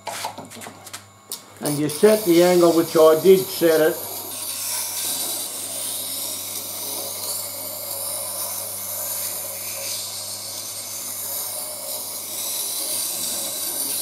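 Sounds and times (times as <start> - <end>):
grinder motor hum: 0.0 - 14.0.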